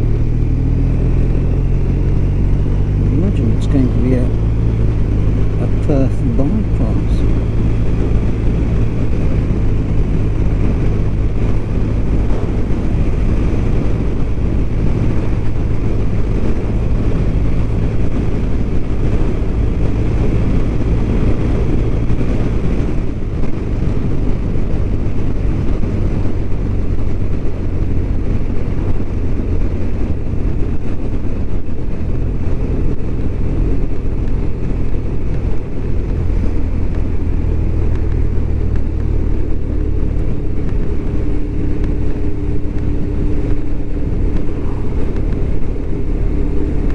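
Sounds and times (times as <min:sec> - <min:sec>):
motorcycle engine cruising: 0:00.0 - 0:46.9
road noise: 0:00.0 - 0:46.9
wind noise: 0:00.0 - 0:46.9.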